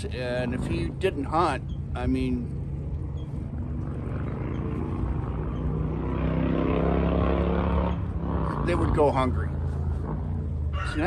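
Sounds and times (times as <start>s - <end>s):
vehicle engines droning past: 0.0s - 11.0s.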